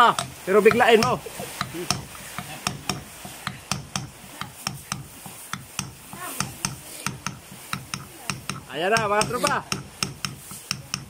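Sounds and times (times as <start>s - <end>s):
hammer tapping on metal: 0.0s - 11.0s.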